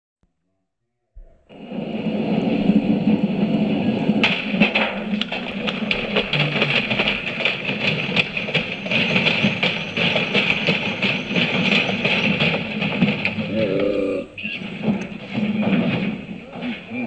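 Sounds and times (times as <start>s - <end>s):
washing machine rattling and knocking: 1.2s - 13.8s, 14.6s - 17.0s
washing machine humming: 1.2s - 17.0s.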